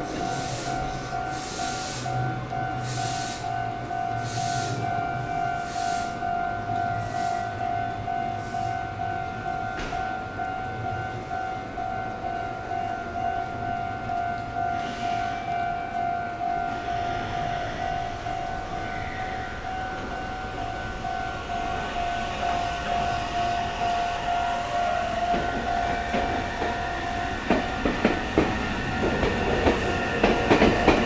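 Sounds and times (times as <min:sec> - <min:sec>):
level crossing alarm ringing: 0:00.0 - 0:31.0
train approaching: 0:00.0 - 0:31.0.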